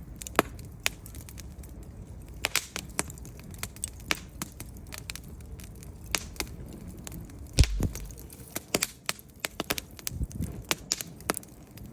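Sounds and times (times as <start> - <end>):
wood fire crackling and popping: 0.0 - 11.9.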